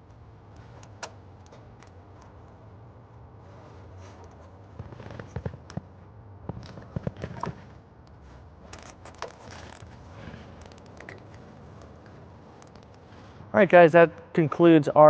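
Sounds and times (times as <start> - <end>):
wires rustling and scraping: 0.0 - 13.9.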